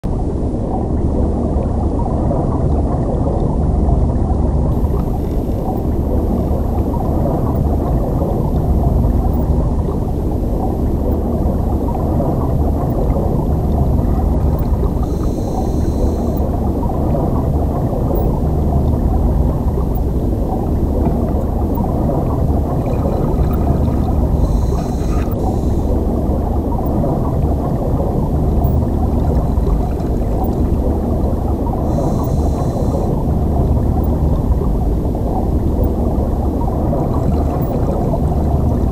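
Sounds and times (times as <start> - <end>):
underwater river rumble: 0.1 - 38.9.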